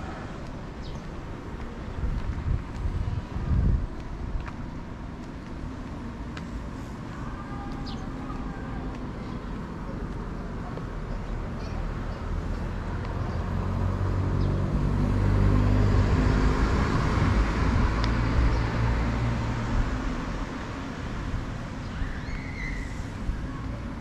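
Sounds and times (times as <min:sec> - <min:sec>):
vehicle passing on street: 0:00.0 - 0:24.0.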